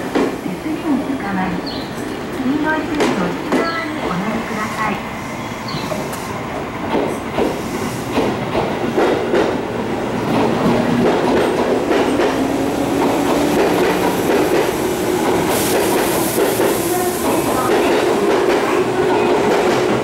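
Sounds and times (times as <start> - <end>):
low train drone: 0.0 - 20.0.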